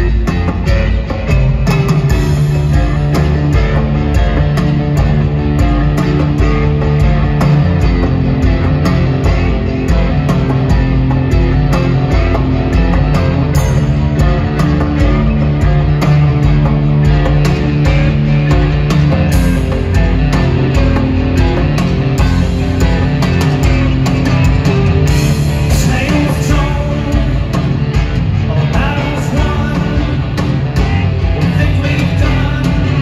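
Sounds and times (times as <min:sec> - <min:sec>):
bass guitar low notes: 0:00.0 - 0:33.0
distorted electric guitar: 0:00.0 - 0:33.0
steady drum beat: 0:00.0 - 0:33.0.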